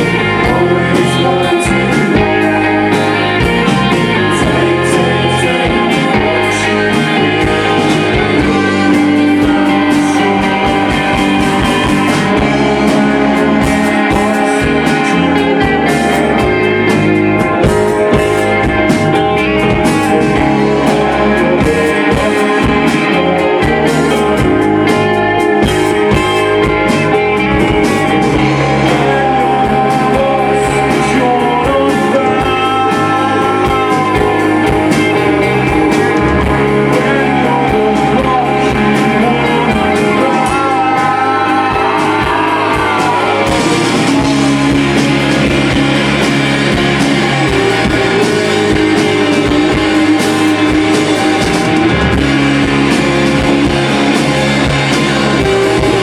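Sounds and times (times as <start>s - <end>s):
loud rock music with vocals: 0.0s - 56.0s.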